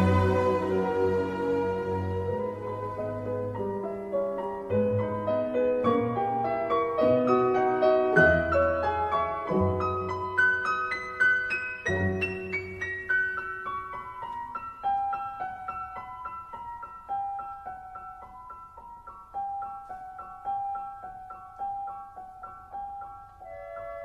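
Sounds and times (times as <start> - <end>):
slow gentle piano melody: 0.0 - 24.0.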